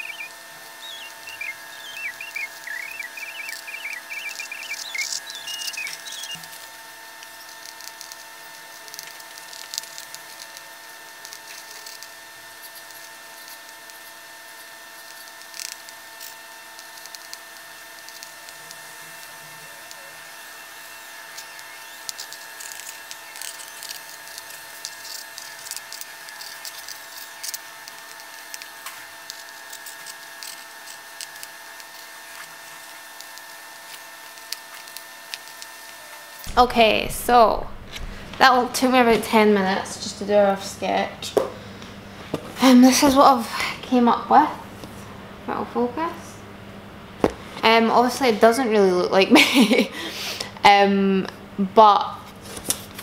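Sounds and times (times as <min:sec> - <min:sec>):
steady hum: 0:00.0 - 0:52.3.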